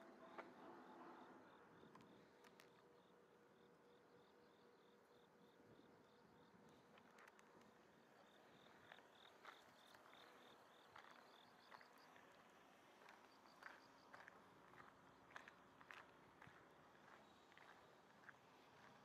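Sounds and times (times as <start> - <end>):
faint insect chirping: 0.0 - 19.0.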